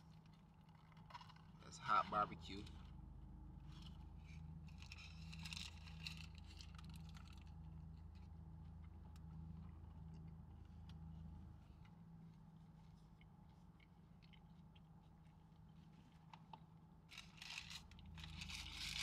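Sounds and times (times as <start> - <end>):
car air conditioner hum: 0.0 - 19.0.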